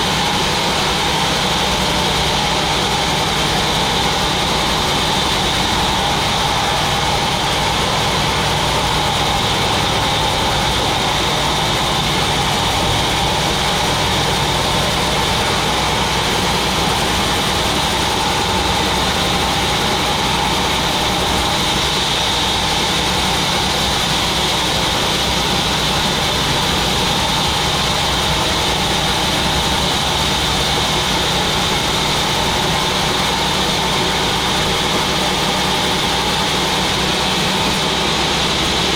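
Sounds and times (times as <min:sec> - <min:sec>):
machine high whine: 0:00.0 - 0:38.9.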